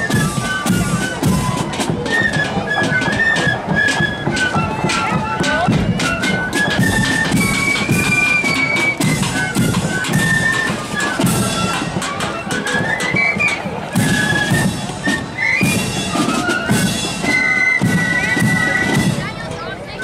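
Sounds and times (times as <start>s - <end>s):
snare drum strokes: 0.0s - 19.3s
flutes playing high melody: 0.0s - 20.0s.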